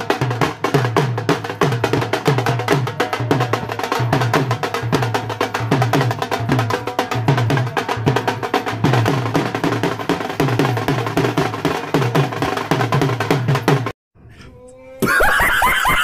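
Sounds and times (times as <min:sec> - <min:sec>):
music with fast drum beat: 0:00.0 - 0:13.9.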